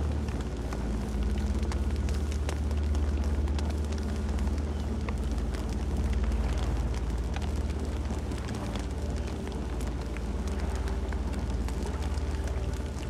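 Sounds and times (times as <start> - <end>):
fire crackling and popping: 0.0 - 13.0
low rumble of fire: 0.0 - 13.0.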